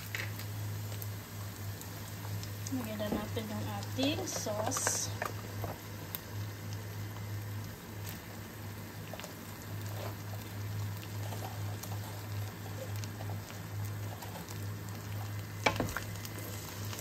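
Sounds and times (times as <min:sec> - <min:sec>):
meat sizzling in a frying pan: 0:00.0 - 0:17.0
steady low hum: 0:00.0 - 0:17.0.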